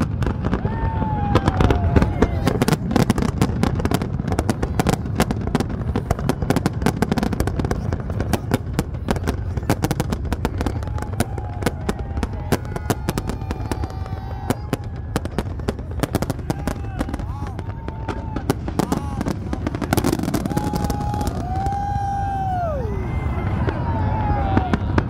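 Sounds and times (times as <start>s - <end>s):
firework bangs and crackles: 0.0s - 25.0s.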